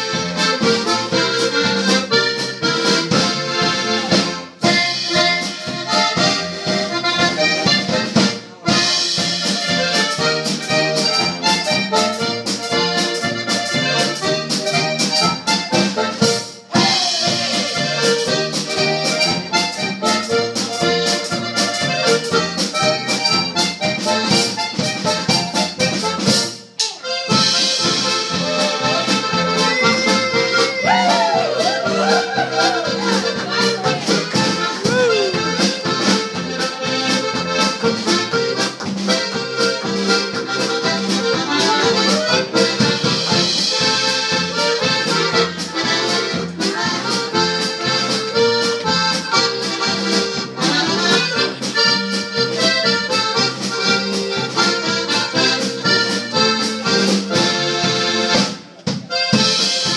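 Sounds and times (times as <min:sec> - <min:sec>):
accordions playing a polka: 0:00.0 - 0:59.9.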